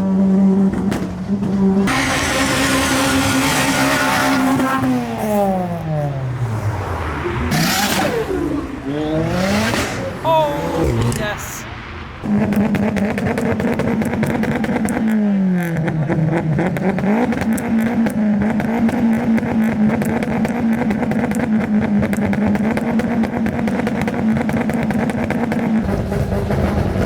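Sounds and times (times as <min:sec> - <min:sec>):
car engine at high revs: 0:00.0 - 0:27.0
exhaust crackling: 0:00.0 - 0:27.0.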